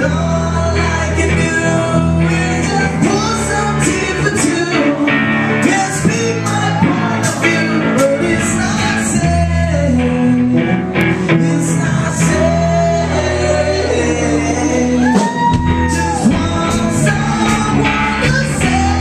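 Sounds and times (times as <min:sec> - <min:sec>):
electric guitar: 0:00.0 - 0:19.0
person singing: 0:00.0 - 0:19.0.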